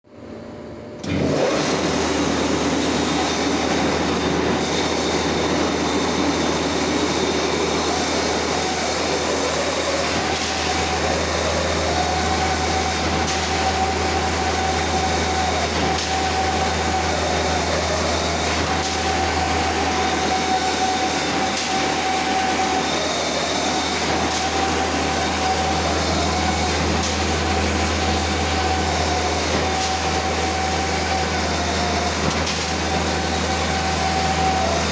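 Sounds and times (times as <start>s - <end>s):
loud mechanical machine noise: 0.0s - 34.9s
mid-pitched machine whine: 0.0s - 34.9s.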